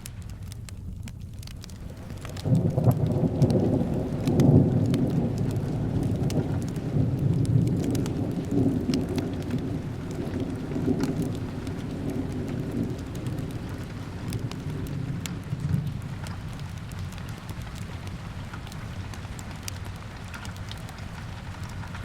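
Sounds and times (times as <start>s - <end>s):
fireplace crackling: 0.0s - 22.0s
rolling thunder rumble: 0.0s - 22.0s
steady rain: 0.0s - 22.0s.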